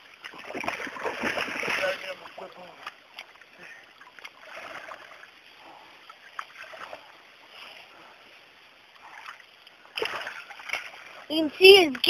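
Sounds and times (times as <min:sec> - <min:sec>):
shallow water splashing: 0:00.0 - 0:12.0.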